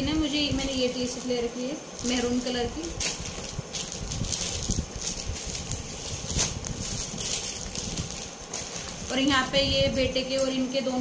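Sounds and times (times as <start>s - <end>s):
plastic bags crinkling: 0.0s - 10.4s.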